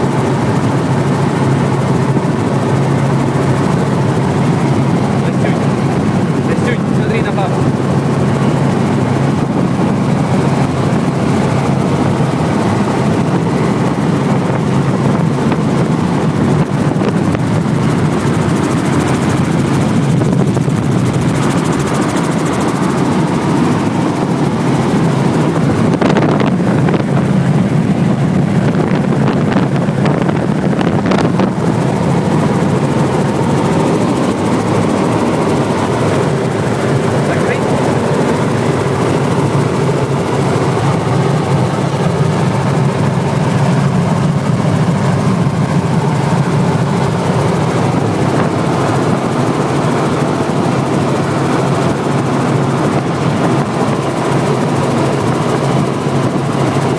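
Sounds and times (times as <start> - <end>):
helicopter rotor and engine drone: 0.0 - 56.9.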